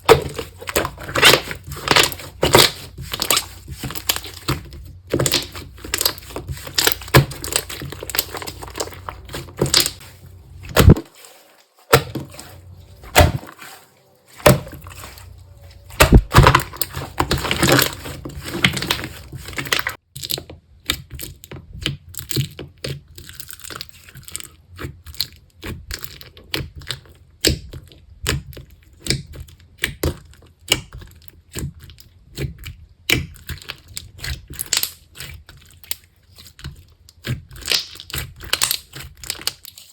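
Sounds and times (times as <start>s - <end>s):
slime crackling and popping: 0.0s - 12.4s, 13.0s - 39.9s.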